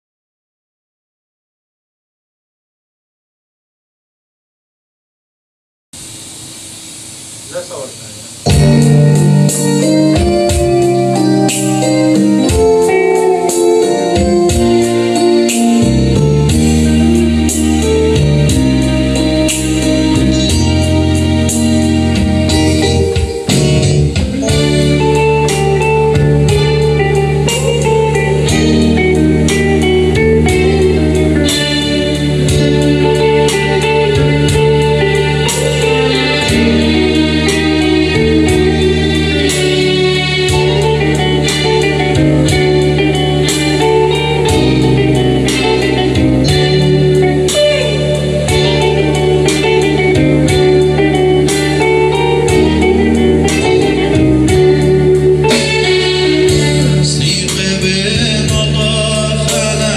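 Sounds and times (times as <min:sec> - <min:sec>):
drum kit: 0:06.0 - 0:59.9
electric guitar: 0:06.0 - 0:59.9
low bass line: 0:06.0 - 0:59.9
organ-toned keyboard chords: 0:06.0 - 0:59.9.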